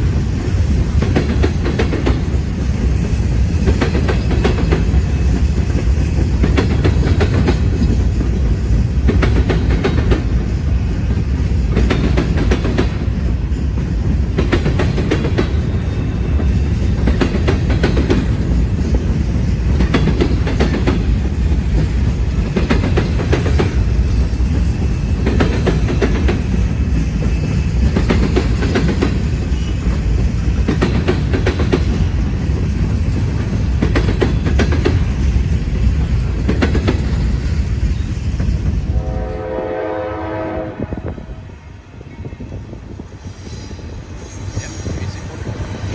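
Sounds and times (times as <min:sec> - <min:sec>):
wheels clacking over rail joints: 0:00.0 - 0:38.8
freight train rumbling past: 0:00.0 - 0:45.9.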